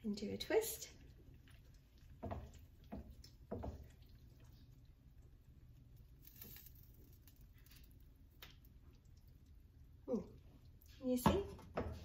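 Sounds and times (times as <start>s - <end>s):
soft wet plops of pasta: 0.8s - 11.0s.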